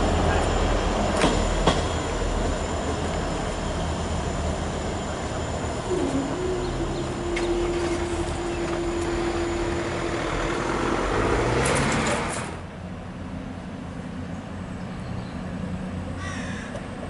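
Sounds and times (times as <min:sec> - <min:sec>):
diesel train engine hum: 0:00.0 - 0:17.0.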